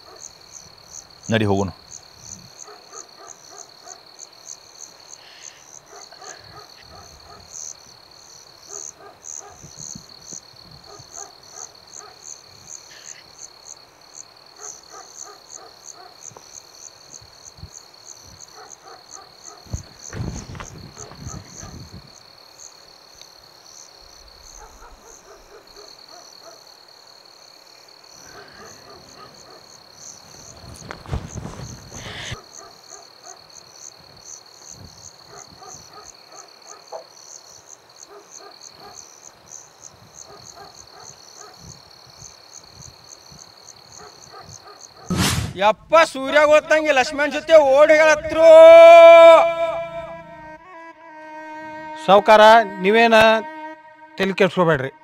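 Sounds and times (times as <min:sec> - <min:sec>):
frogs croaking: 0:00.0 - 0:45.0
high insect trill: 0:00.0 - 0:54.8.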